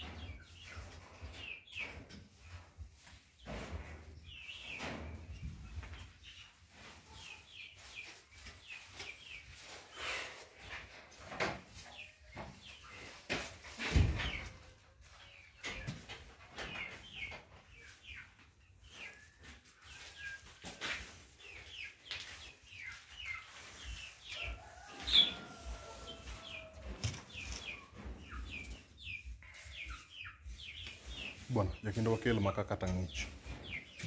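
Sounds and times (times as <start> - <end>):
poultry chirping: 0.0 - 34.0.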